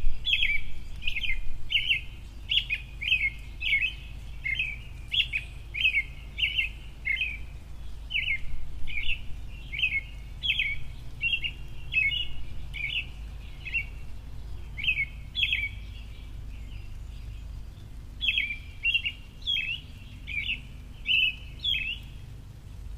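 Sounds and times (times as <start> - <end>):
small bird chirping: 0.0 - 22.2.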